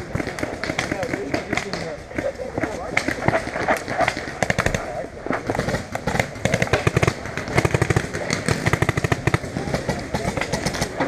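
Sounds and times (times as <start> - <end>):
paintball markers firing: 0.0 - 11.0.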